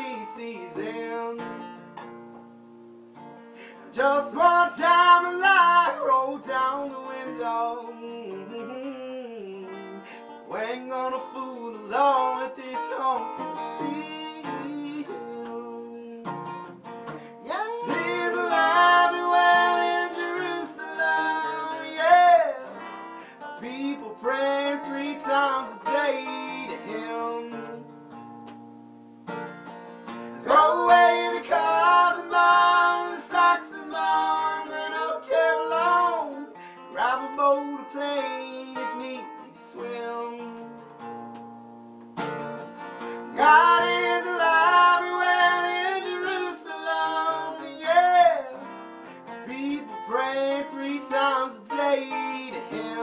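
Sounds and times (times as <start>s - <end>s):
man singing: 0.0s - 1.7s, 3.8s - 16.6s, 17.4s - 27.9s, 30.4s - 40.8s, 43.0s - 53.0s
acoustic guitar: 0.0s - 53.0s.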